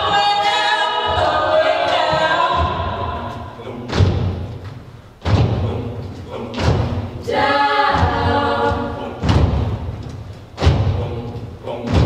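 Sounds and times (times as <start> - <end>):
group singing in close harmony: 0.0 - 4.5, 5.3 - 12.0
heavy thumping beat: 1.1 - 12.0.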